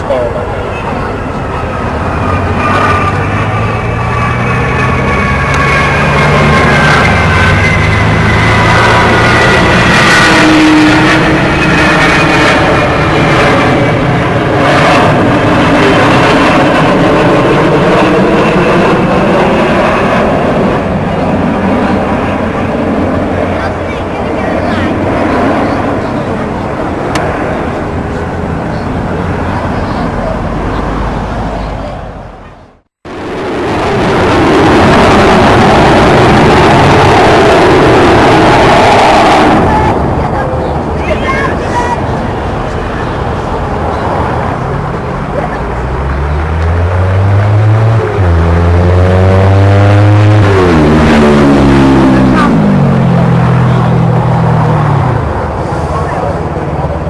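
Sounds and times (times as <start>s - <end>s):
jet bomber flying overhead: 0.0s - 57.0s.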